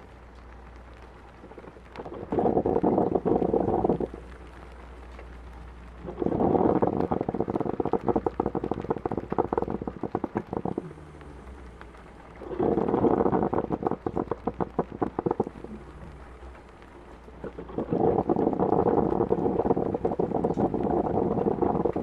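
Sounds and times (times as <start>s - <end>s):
soft steady rain hiss: 0.0s - 22.0s
coffee pot gurgling and sputtering: 1.2s - 22.0s.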